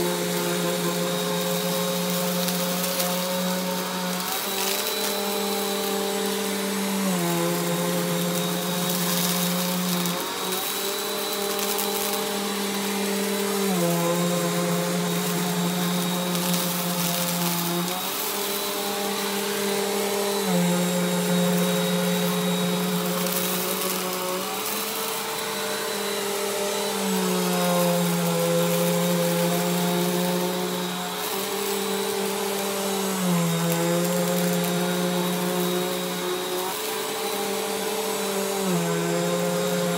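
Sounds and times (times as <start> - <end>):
vacuum cleaner running over rug: 0.0 - 39.9.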